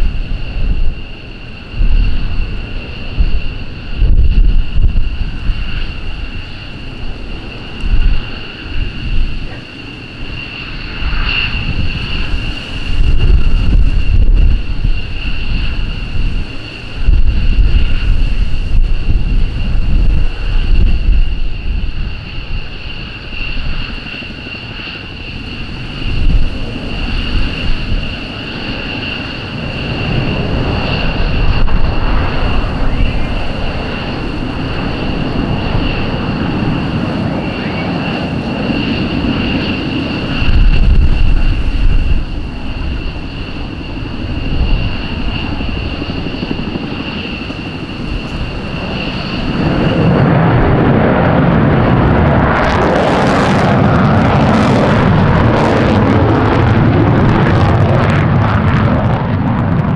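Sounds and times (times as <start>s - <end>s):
jet engines whining: 0.0s - 59.9s
loud jet noise: 0.0s - 59.9s.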